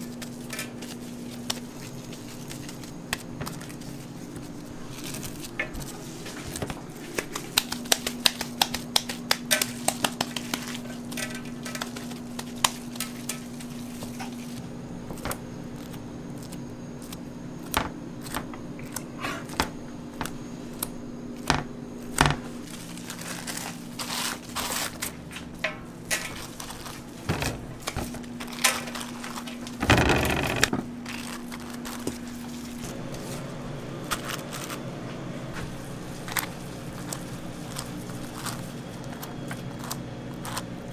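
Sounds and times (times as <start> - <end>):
paper crinkling: 0.0 - 19.6, 22.5 - 34.9, 35.6 - 40.9
steady low hum: 0.0 - 40.9.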